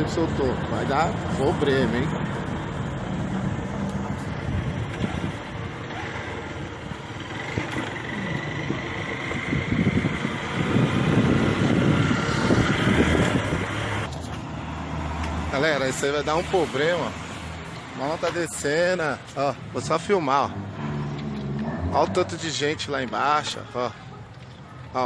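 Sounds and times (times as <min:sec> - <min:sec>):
motor vehicle running: 0:00.0 - 0:16.5, 0:19.2 - 0:23.4
street noise: 0:00.0 - 0:25.0.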